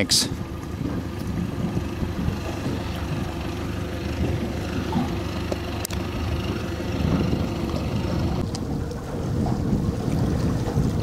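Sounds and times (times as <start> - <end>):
outboard engine rumbling: 0.0 - 11.0
water noise: 0.0 - 11.0
wind noise: 0.0 - 11.0.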